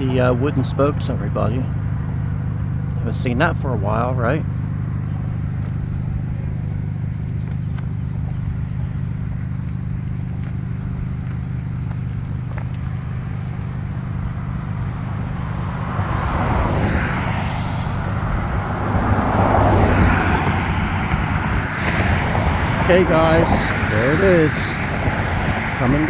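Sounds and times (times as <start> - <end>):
car engine idling: 0.0 - 26.0
car passing: 0.0 - 26.0.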